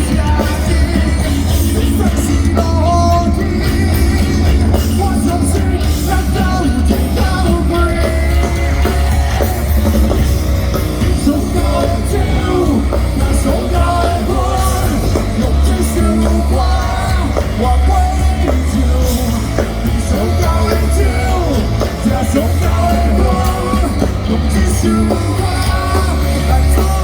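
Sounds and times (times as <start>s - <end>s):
heavy bass: 0.0s - 27.0s
live rock band playing: 0.0s - 27.0s.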